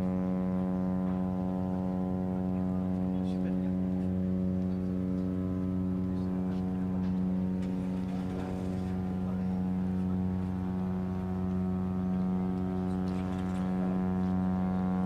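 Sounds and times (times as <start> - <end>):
ferry low drone: 0.0 - 15.0.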